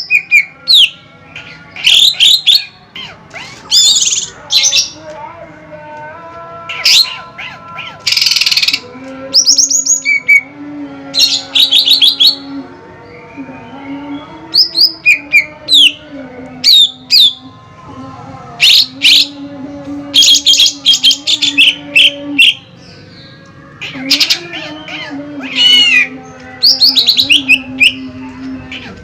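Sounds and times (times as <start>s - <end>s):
songbirds chirping and whistling: 0.0s - 5.2s, 6.7s - 17.8s, 18.5s - 29.0s.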